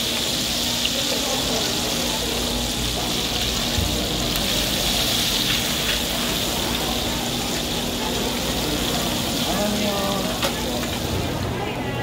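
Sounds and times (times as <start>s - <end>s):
pancakes sizzling in oil: 0.0s - 11.4s.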